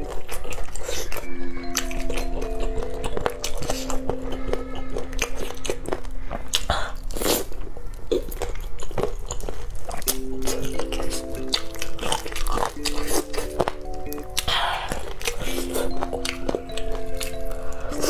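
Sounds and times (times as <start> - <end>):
soft background music: 0.0 - 7.9, 9.7 - 18.0
crunchy food chewing: 0.0 - 18.0.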